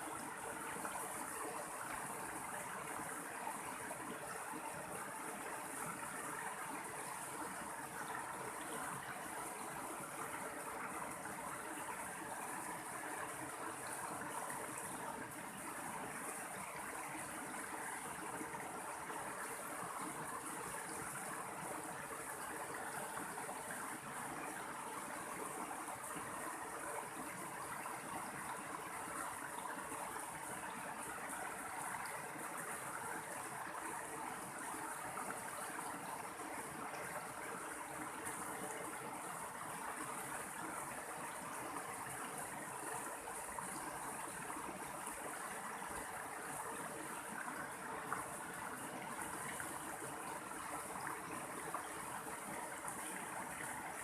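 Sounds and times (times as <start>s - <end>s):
mountain stream flowing: 0.0s - 54.0s.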